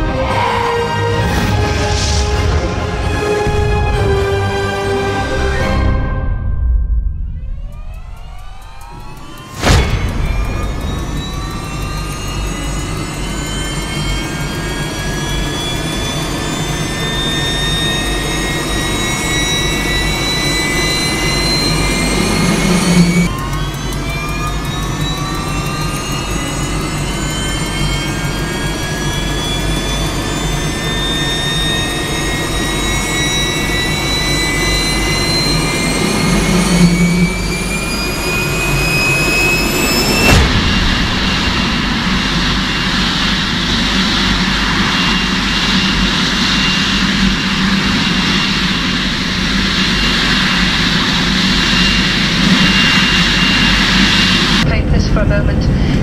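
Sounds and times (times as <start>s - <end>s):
rushing roar: 0.0s - 54.7s
jet engine spool-up whine: 0.0s - 56.0s
low rumble: 1.2s - 56.0s.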